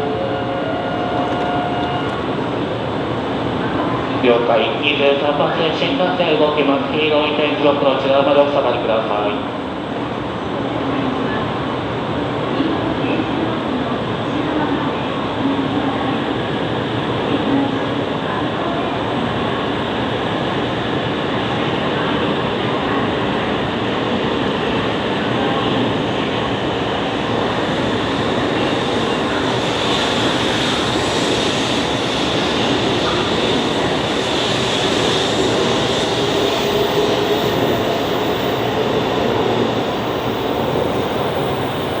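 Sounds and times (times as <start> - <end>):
train running past: 0.0 - 42.0.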